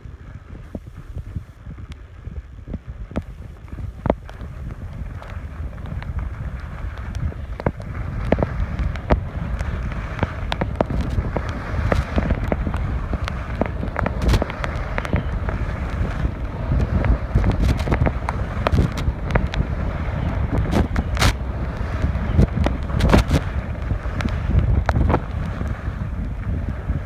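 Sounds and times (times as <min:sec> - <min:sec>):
sharp crackles and pops: 0:00.0 - 0:27.0
skis scraping on snow: 0:00.0 - 0:27.0
wind buffeting microphone: 0:00.0 - 0:27.0.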